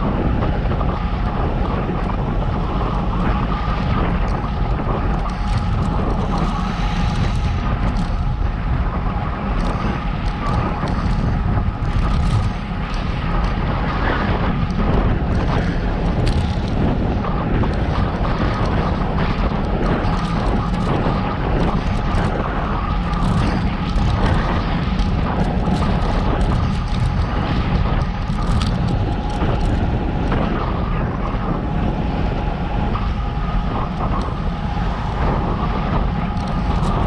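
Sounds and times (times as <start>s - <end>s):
bicycle tyre and road noise: 0.0s - 37.0s
wind noise on microphone: 0.0s - 37.0s
small clicks and rattles: 2.0s - 8.4s, 9.4s - 31.4s, 33.8s - 37.0s.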